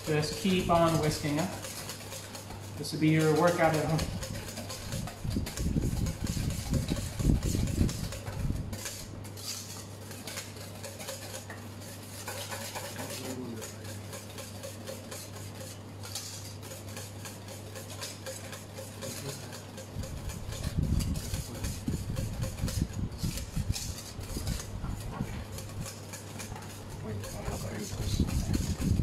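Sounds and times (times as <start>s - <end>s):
whisk scraping metal bowl: 0.0s - 29.0s.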